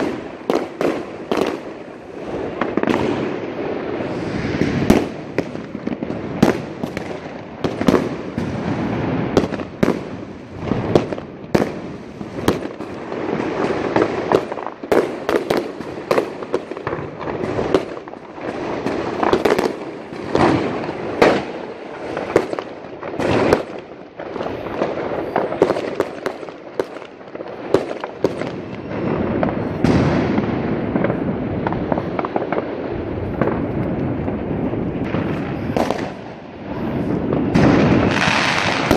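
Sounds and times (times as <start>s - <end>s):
distant firecrackers crackling: 0.0s - 38.9s
firework bangs: 0.0s - 38.9s.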